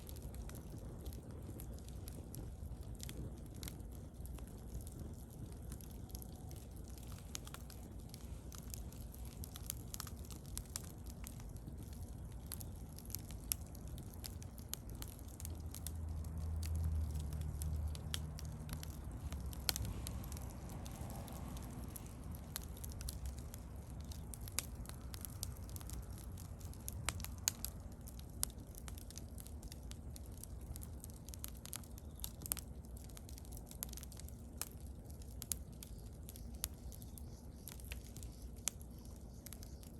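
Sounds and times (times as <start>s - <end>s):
bonfire crackling and popping: 0.0s - 39.9s
low rumble of flames: 0.0s - 39.9s.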